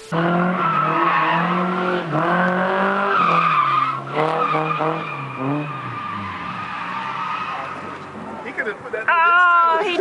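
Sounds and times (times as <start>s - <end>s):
car engine at high revs: 0.0s - 8.9s.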